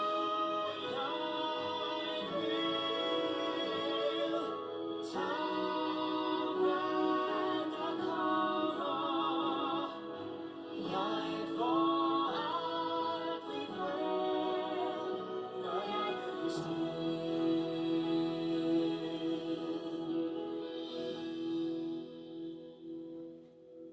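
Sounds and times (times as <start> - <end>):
film song with orchestra on tv: 0.0 - 23.9.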